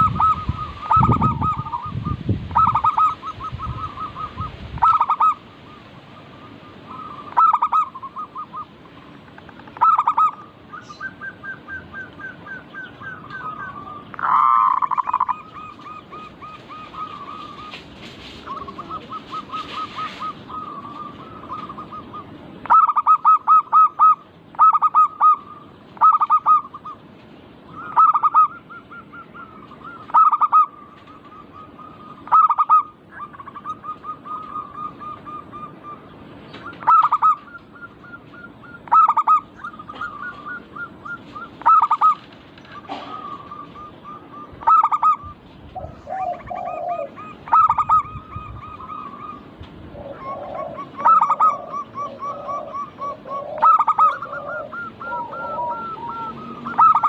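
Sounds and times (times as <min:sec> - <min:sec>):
dove staccato coos: 0:00.0 - 0:27.1, 0:27.8 - 0:57.0
faint doves cooing: 0:00.0 - 0:27.1, 0:27.7 - 0:57.0.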